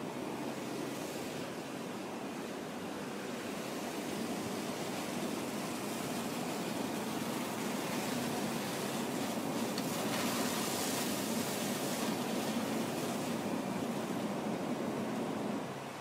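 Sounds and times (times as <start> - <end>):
fire engine pump droning: 0.2 - 16.0.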